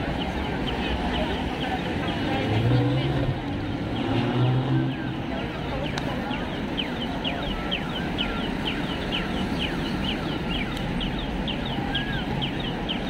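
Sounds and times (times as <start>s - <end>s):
city street noise: 0.0s - 13.0s.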